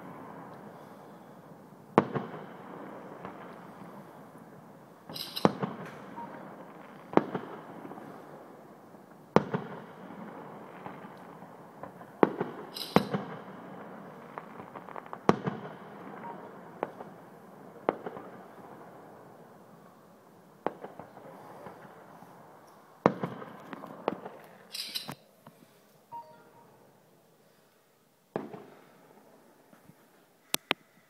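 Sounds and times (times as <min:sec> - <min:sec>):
fireworks bangs: 0:00.0 - 0:25.7, 0:28.3 - 0:30.1
fireworks crackling: 0:00.0 - 0:27.6, 0:28.3 - 0:30.6.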